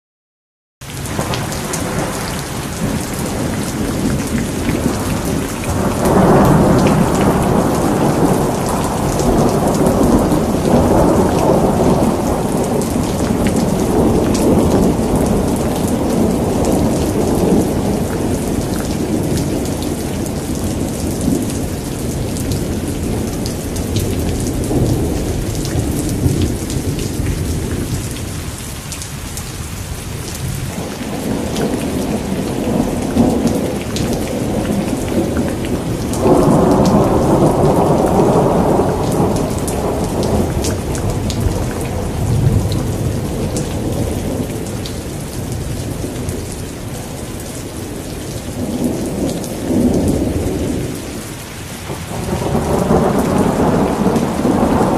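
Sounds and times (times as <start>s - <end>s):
heavy rain: 0.8s - 54.9s
rolling thunder: 1.0s - 28.8s, 29.4s - 54.9s.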